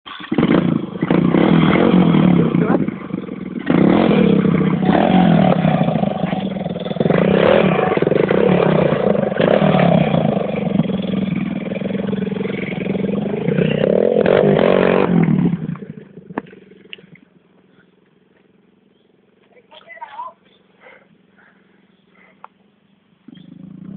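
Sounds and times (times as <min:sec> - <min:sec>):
pit bike engine revving: 0:00.1 - 0:19.2, 0:23.3 - 0:23.9.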